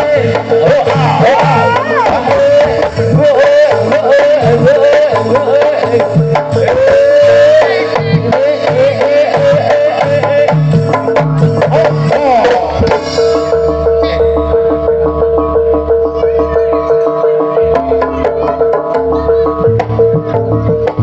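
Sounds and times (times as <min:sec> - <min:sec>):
hand drums beating: 0:00.0 - 0:21.0
ornamented melody: 0:00.0 - 0:21.0.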